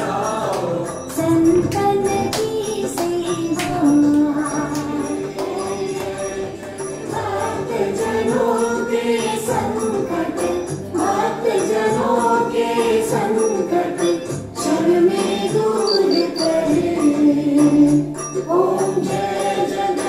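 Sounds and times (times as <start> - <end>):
jingling percussion: 0.0 - 20.0
several voices singing devotional song: 0.0 - 20.0.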